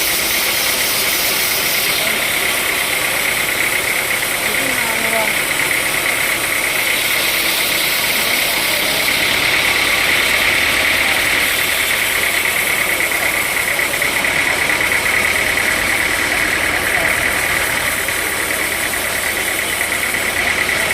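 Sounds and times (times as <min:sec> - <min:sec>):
sawmill machinery running: 0:00.0 - 0:20.9.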